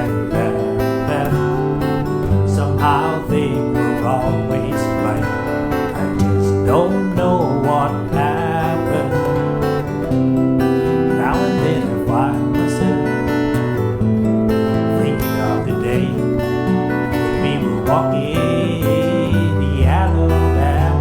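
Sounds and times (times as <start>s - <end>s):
acoustic guitar country-folk song: 0.0s - 21.0s.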